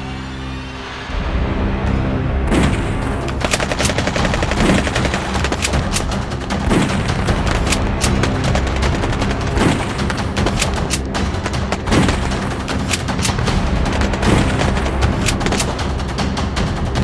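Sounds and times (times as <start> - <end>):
background music: 0.0 - 17.0
deep boom: 1.1 - 17.0.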